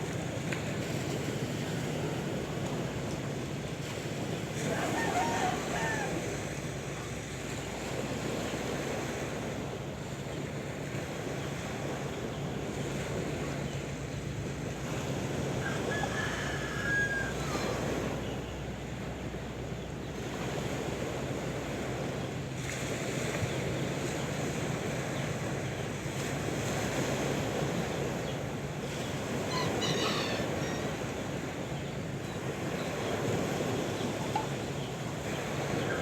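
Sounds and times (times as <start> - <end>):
sea surf washing in: 0.0 - 36.0.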